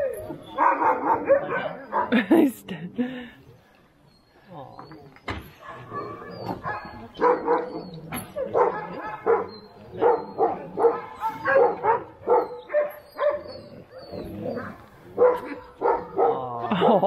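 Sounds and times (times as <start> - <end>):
dogs barking and yipping: 0.0 - 2.3, 4.1 - 17.0.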